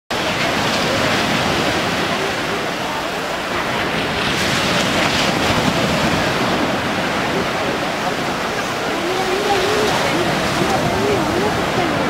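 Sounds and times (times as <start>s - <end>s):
surf washing over rocks: 0.1s - 12.0s
wind buffeting microphone: 0.1s - 12.0s.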